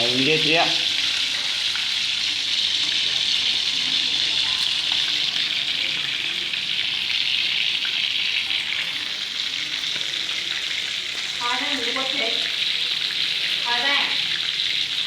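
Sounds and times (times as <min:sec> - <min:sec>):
chicken wings sizzling in oil: 0:00.0 - 0:15.0.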